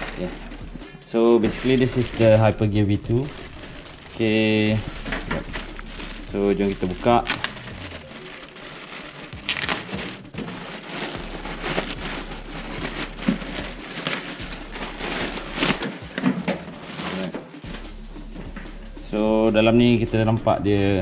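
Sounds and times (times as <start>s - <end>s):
plastic bag crinkling: 0.0s - 0.5s, 1.4s - 17.8s.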